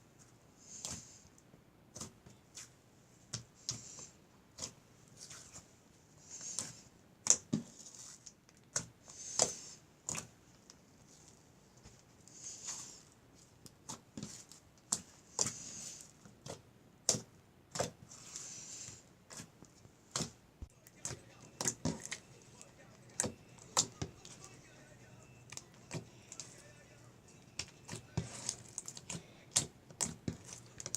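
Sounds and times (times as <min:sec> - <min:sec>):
wet slime squelches: 0:00.2 - 0:30.9.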